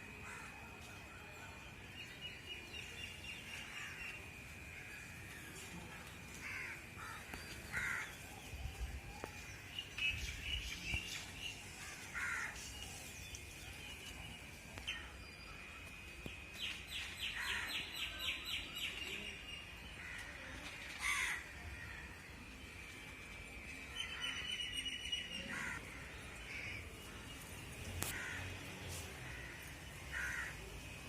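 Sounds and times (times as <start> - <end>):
steady high-pitched tone: 0.0 - 31.0.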